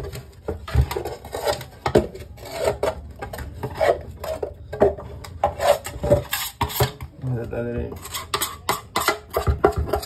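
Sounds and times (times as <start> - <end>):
rubbing and scraping on part: 0.0 - 4.6, 5.2 - 7.0, 7.9 - 10.0.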